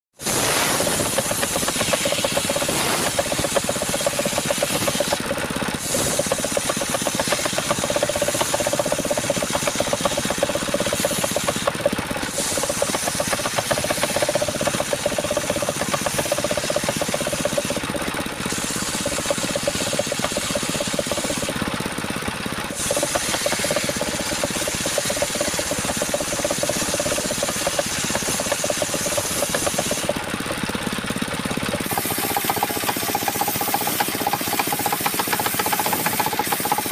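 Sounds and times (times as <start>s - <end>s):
power saw cutting wood: 0.2s - 36.9s.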